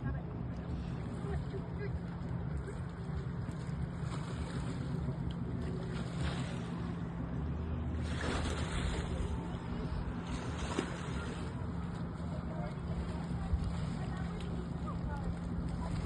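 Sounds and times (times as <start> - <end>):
boat engine humming: 0.0 - 16.0
water wash: 0.0 - 16.0.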